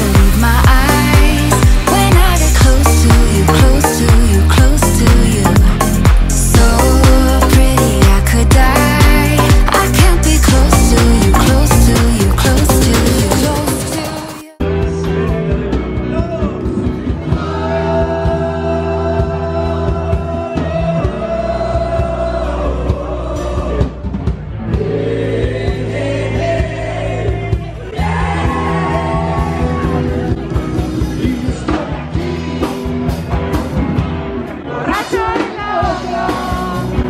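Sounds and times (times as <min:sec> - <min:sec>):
lead singer: 0:00.0 - 0:33.2, 0:34.5 - 0:37.0
drums: 0:00.0 - 0:37.0.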